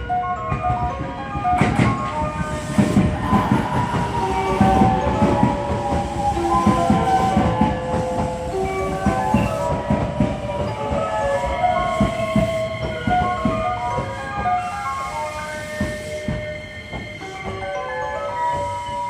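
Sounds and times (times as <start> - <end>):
train wheels clattering: 0.5 - 19.0.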